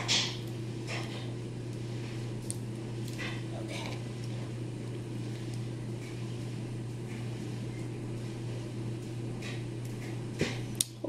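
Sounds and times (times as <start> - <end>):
low mechanical room hum: 0.0 - 11.0.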